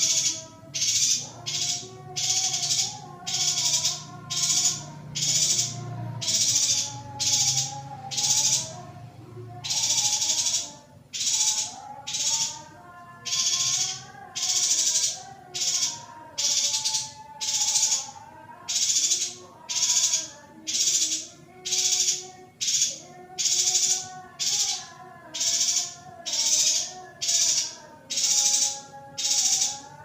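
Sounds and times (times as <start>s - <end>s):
bird buzzy high calls: 0.0s - 30.0s.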